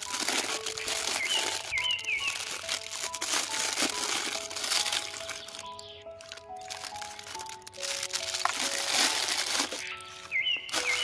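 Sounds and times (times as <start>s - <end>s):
background music: 0.0s - 11.0s
plastic bag crinkling: 0.0s - 11.0s.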